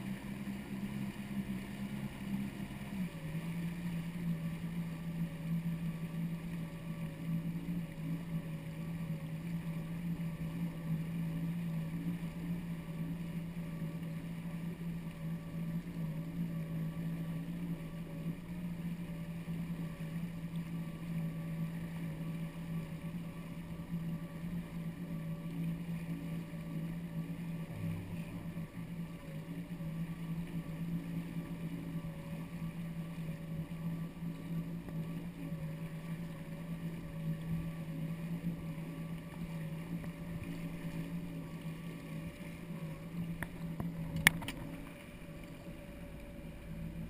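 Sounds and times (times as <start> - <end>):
jet ski engine droning: 0.0 - 47.0
water rushing along hull: 0.0 - 47.0.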